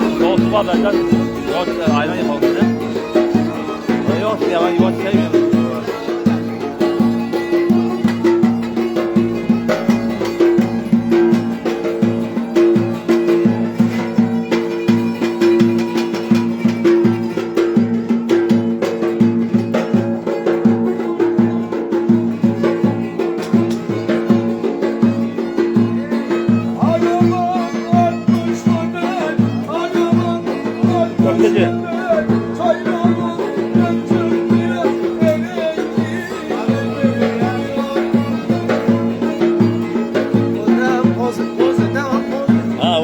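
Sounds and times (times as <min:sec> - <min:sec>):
folk dance tune: 0:00.0 - 0:43.0.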